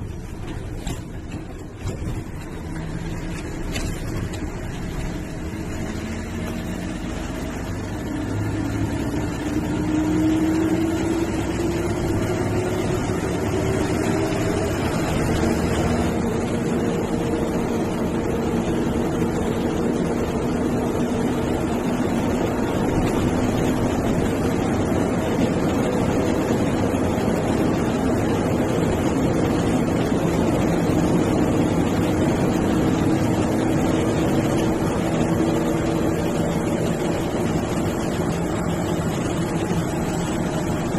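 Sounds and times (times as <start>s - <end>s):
bus diesel engine: 0.0s - 40.9s
road noise: 0.0s - 40.9s.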